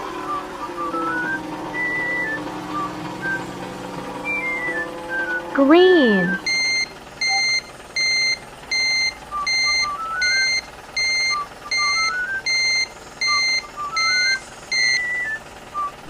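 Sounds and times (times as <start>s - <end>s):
reversing alarm beeps: 0.0s - 3.6s, 4.2s - 5.5s, 6.1s - 16.0s.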